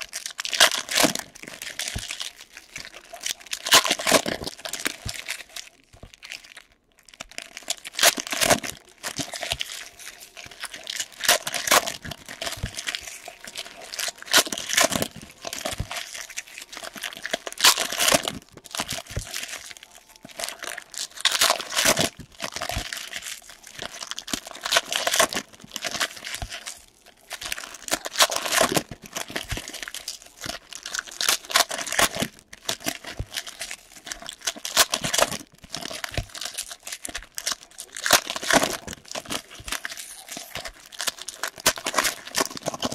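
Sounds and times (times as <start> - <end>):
foil wrappers crinkling and tearing: 0.0 - 42.9.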